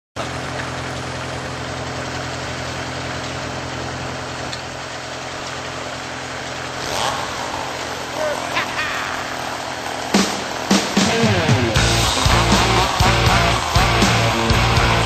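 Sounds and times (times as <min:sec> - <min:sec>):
engine idling: 0:00.2 - 0:15.0.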